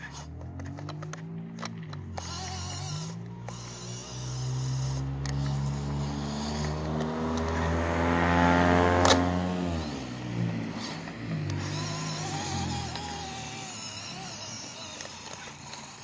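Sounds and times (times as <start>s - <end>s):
toy truck electric motor whining: 0.0s - 16.0s.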